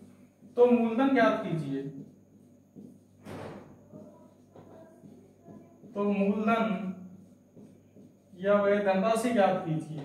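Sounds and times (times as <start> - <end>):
marker writing on whiteboard: 0.0 - 10.0.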